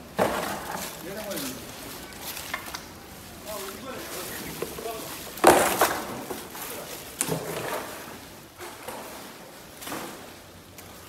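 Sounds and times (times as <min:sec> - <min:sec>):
shovel scraping wet debris: 0:00.0 - 0:11.0.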